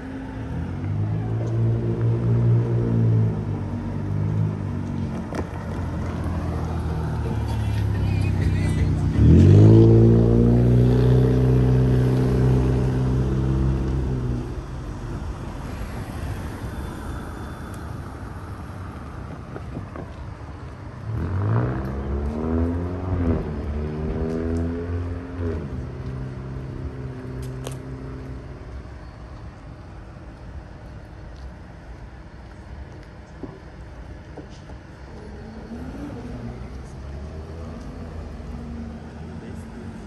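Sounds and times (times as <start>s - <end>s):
vehicle accelerating with gear changes: 0.0s - 31.6s, 32.2s - 40.0s.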